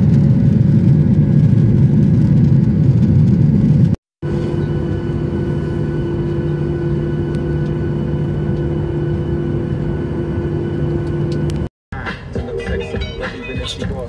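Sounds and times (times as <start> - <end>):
faint engine whines: 0.0 - 11.7
jet engine cabin drone: 0.0 - 11.7.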